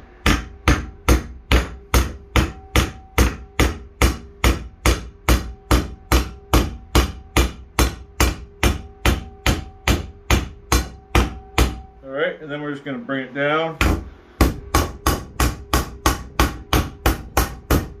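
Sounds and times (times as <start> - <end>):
hammer striking steel rod: 0.2 - 12.0, 13.8 - 18.0.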